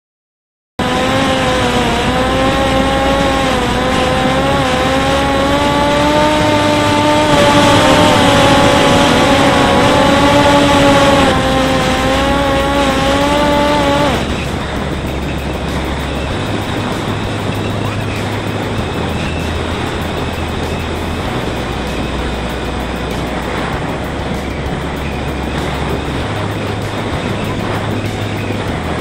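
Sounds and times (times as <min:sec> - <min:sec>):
drone motor and propeller humming: 0:00.8 - 0:29.0
wind rushing: 0:00.8 - 0:29.0.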